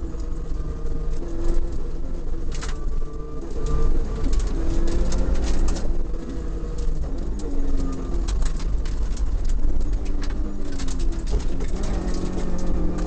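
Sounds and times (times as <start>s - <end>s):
car engine revving: 0.0s - 13.0s
gravel clattering against underbody: 0.0s - 13.0s.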